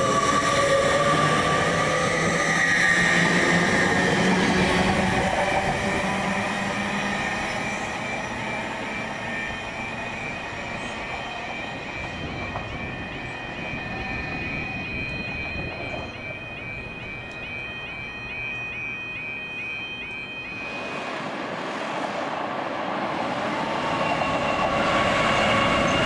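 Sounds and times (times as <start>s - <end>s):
high warbling ringing tone: 0.0s - 21.6s, 23.3s - 26.0s
train passing at speed: 0.0s - 26.0s.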